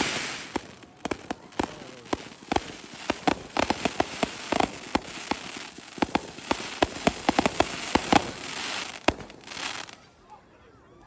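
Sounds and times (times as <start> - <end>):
hissing crackle: 0.0 - 10.0
fireworks bangs and crackles: 0.0 - 10.1.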